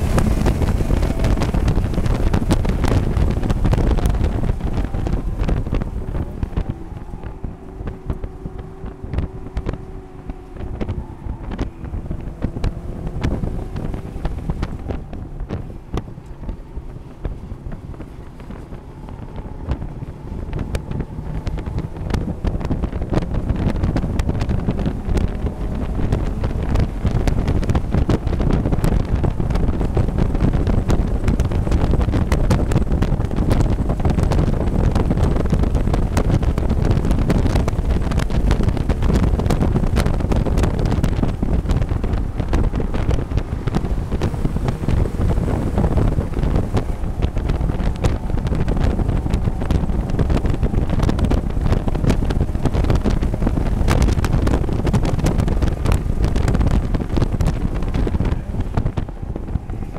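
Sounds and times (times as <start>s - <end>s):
race car engine running: 0.0s - 59.9s
wind buffeting on microphone: 0.0s - 59.9s.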